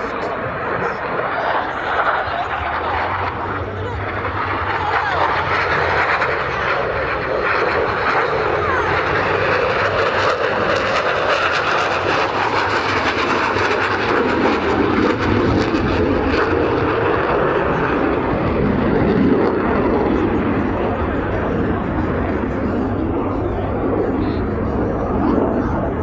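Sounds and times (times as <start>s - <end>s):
jet aircraft roaring past: 0.0s - 26.0s.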